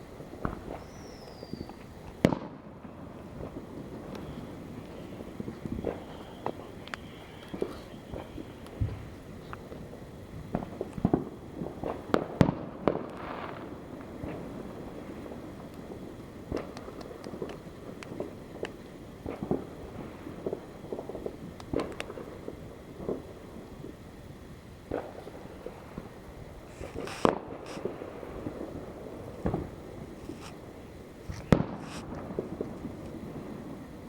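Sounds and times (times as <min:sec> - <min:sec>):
fireworks popping and banging: 0:00.0 - 0:24.0, 0:24.8 - 0:34.0.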